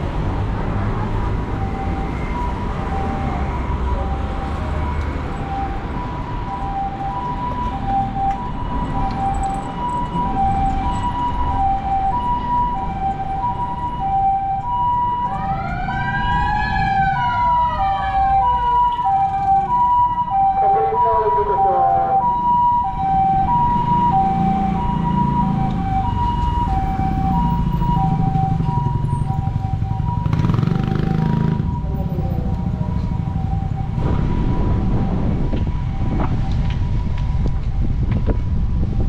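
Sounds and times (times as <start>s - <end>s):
street traffic rumble: 0.0s - 39.0s
siren wail: 0.9s - 39.0s
two-tone ambulance siren: 0.9s - 39.0s.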